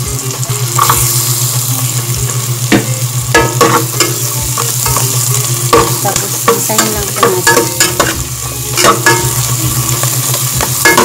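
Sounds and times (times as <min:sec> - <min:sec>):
onion sizzling in a pan: 0:00.0 - 0:11.0
steady low hum: 0:00.0 - 0:11.0.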